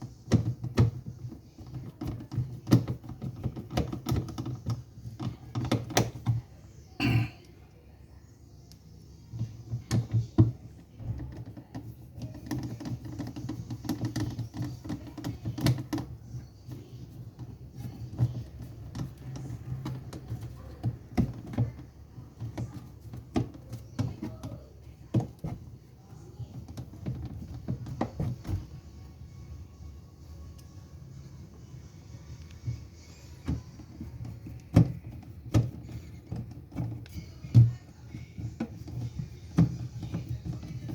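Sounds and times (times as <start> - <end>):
hands clicking and knocking on parts: 0.0 - 7.2, 8.7 - 28.8, 32.4 - 40.9.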